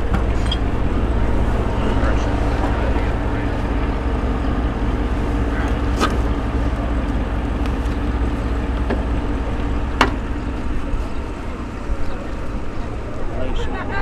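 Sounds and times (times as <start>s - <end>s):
engine running with low drone: 0.0s - 14.0s.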